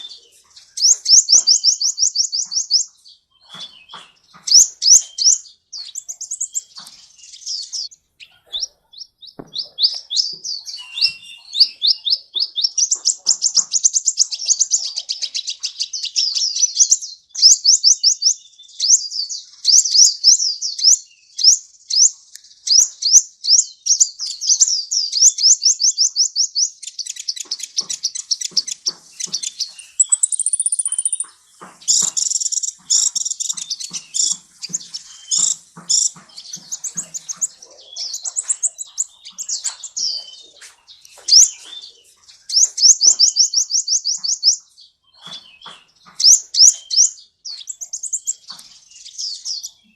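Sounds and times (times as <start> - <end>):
sunbird singing high trills: 0.0 - 49.9.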